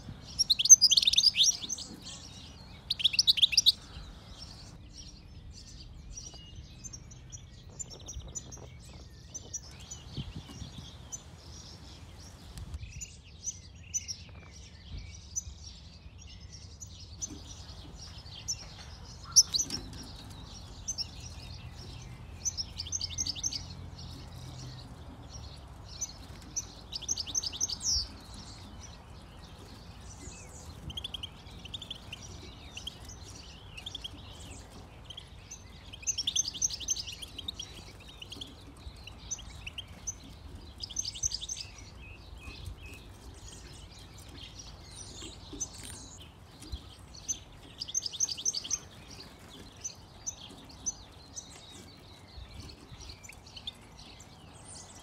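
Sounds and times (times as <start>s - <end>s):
goldfinches twittering: 0.0s - 13.1s, 16.4s - 55.0s.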